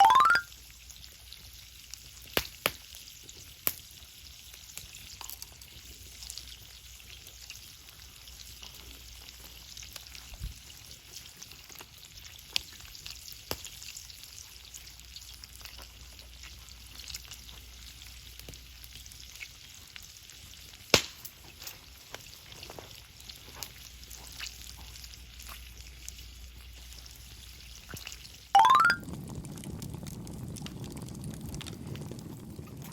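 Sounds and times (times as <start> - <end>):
fire crackles and pops: 1.7 - 28.4, 29.0 - 32.9.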